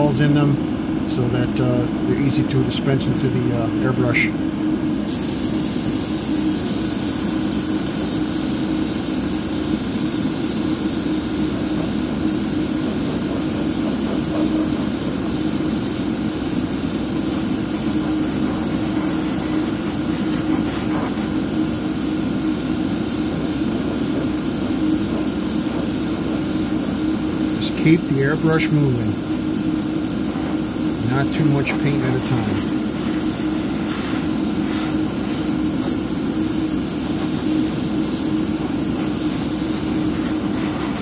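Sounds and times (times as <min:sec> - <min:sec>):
airbrush spraying air: 0:05.1 - 0:41.0.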